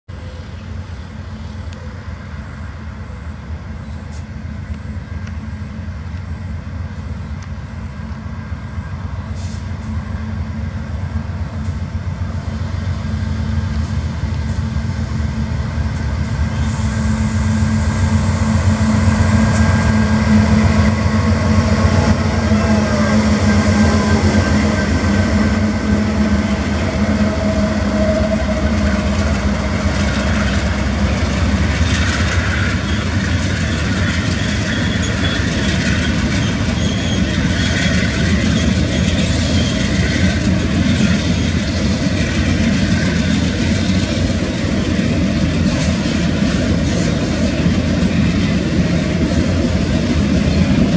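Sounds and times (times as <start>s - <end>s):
locomotive engine drone: 0.1s - 50.9s
train wheels rumbling on rails: 0.1s - 50.9s.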